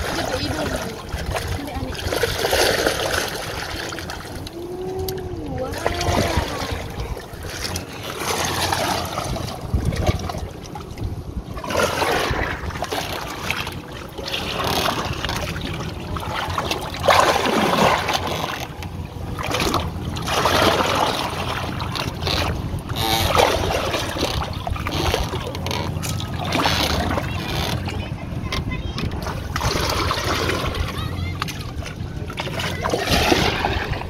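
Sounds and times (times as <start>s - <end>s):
water splashing against boat: 0.0s - 34.0s
wind on microphone: 4.4s - 18.3s, 19.5s - 34.0s.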